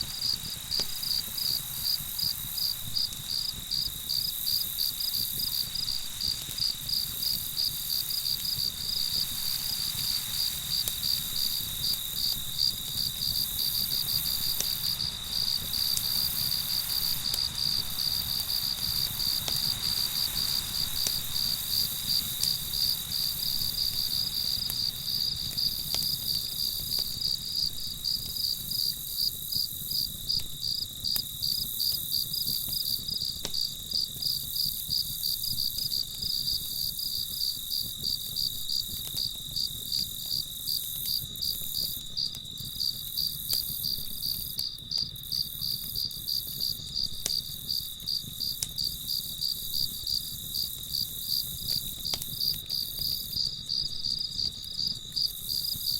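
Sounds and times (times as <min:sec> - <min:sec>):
crickets chirping: 0:00.0 - 0:55.9
faint campfire crackles: 0:00.0 - 0:55.9
high insect trill: 0:00.0 - 0:55.9.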